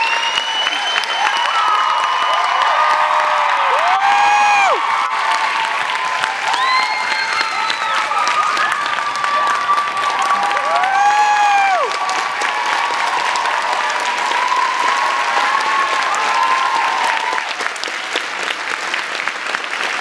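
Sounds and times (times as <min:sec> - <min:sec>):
woo cheers: 0:00.0 - 0:17.6
audience applauding: 0:00.0 - 0:20.0.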